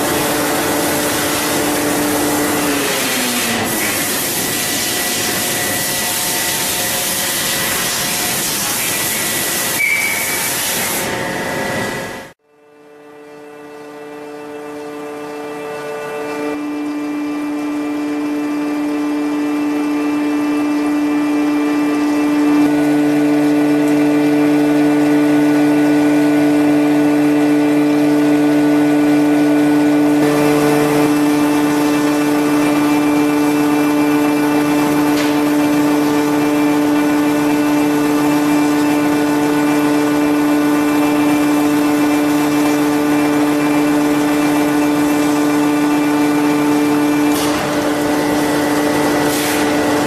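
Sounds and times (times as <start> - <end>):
factory machinery hum: 0.0 - 50.0.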